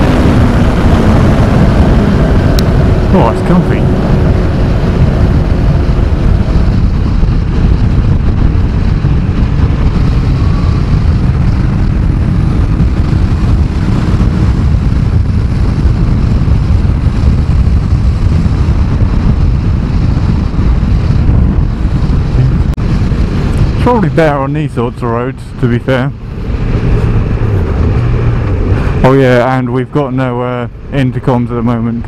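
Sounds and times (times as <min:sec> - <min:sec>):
motorcycle engine: 0:00.0 - 0:31.0
wind rush on microphone: 0:00.0 - 0:32.0.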